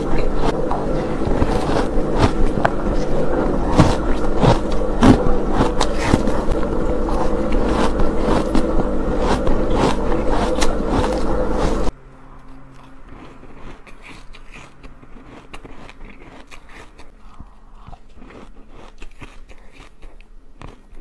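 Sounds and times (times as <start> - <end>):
chewing ice crunches: 0.0 - 21.0
steady low hum: 0.0 - 21.0.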